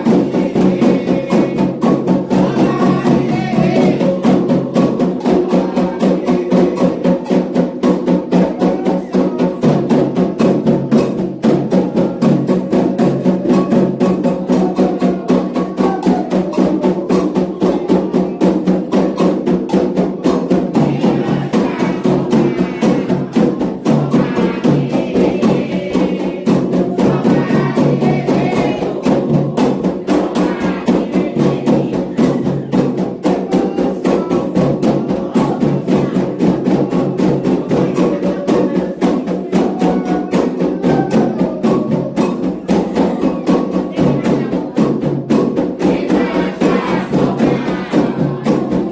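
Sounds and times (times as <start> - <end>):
hand drums: 0.0 - 48.9
voices singing: 0.0 - 48.9.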